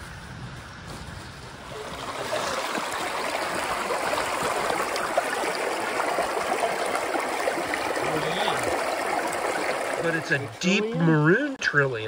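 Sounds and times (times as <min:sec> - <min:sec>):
stream flowing over stones: 0:01.6 - 0:12.0.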